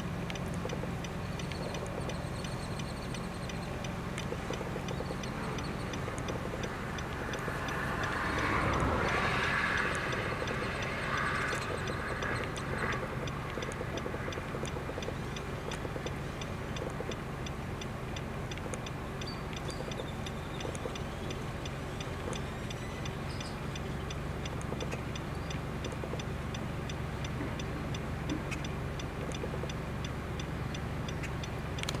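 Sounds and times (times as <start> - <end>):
faint high ticking: 0.0 - 32.0.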